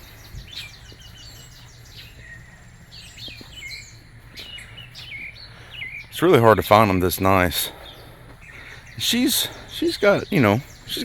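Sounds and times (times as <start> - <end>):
low background hum: 0.0 - 11.0
small birds chirping: 0.0 - 11.0.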